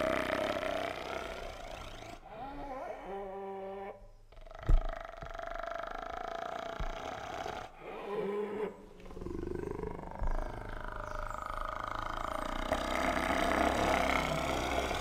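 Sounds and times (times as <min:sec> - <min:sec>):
hyena growling: 0:00.0 - 0:15.0.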